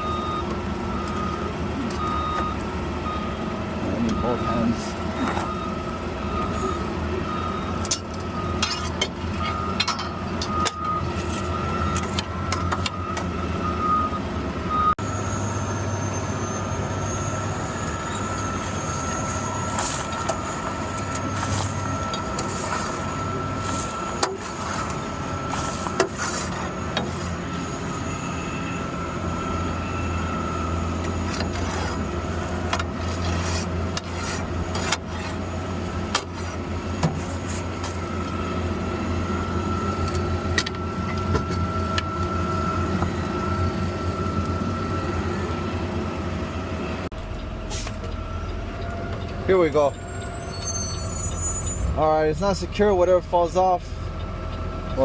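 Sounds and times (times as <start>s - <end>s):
truck engine hum: 0.0s - 55.0s
high-pitched whine: 1.0s - 32.8s, 37.8s - 55.0s.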